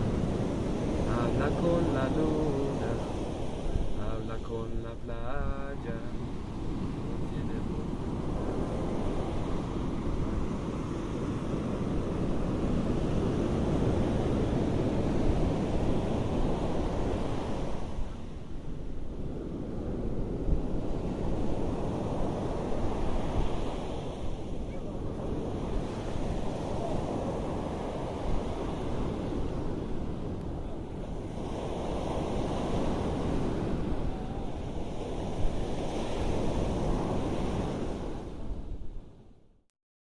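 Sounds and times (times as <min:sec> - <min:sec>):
wind buffeting microphone: 0:00.0 - 0:39.2
ocean waves washing onto beach: 0:00.0 - 0:39.4.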